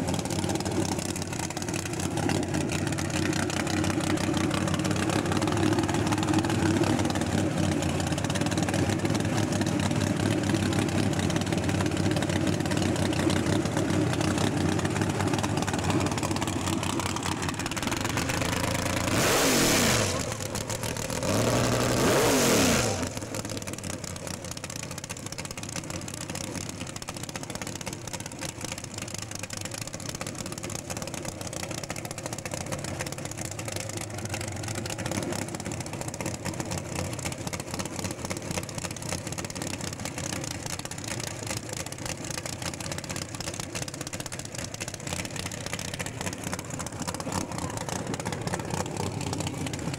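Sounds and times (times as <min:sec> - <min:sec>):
race car engine idling and revving: 0:00.0 - 0:49.9.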